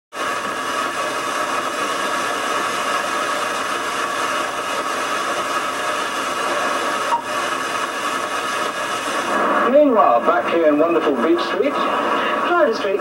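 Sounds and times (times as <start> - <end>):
video static hiss: 0.2 - 13.0.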